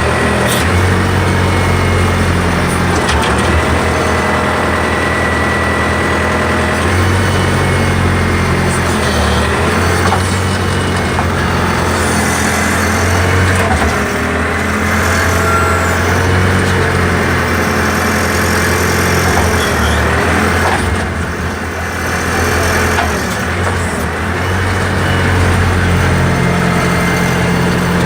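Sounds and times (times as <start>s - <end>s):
backhoe engine under load: 0.0s - 28.0s
hydraulics whining: 0.0s - 28.0s.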